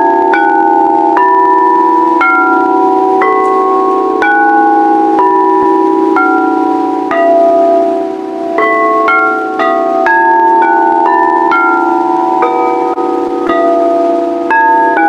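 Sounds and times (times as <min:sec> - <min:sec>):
low wobbling hum: 0:00.0 - 0:15.0
singing bowls ringing: 0:00.0 - 0:15.0.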